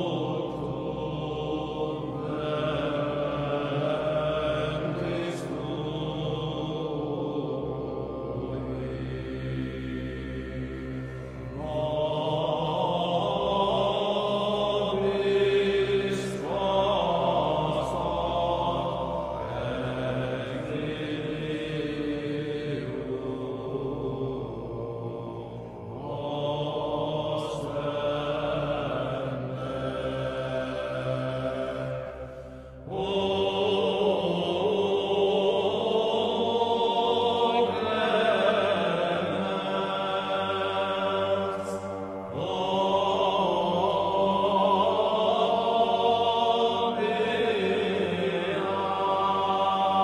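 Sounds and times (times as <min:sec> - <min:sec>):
slow chant-like singing: 0:00.0 - 0:50.0.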